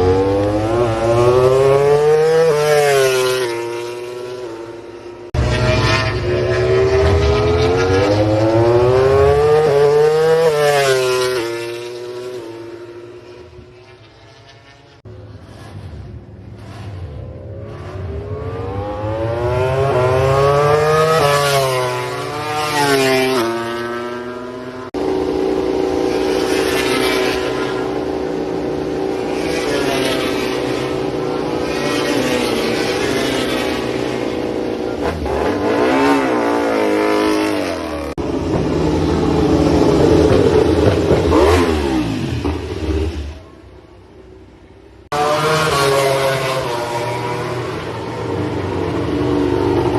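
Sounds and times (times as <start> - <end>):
motorcycles passing by: 0.0 - 15.9, 16.7 - 49.9
race motorcycles revving: 0.0 - 49.9.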